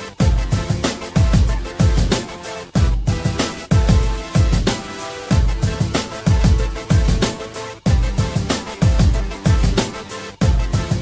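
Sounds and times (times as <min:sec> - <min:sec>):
held synth chords: 0:00.0 - 0:11.0
deep kick drums: 0:00.2 - 0:02.2, 0:02.8 - 0:07.3, 0:07.9 - 0:11.0.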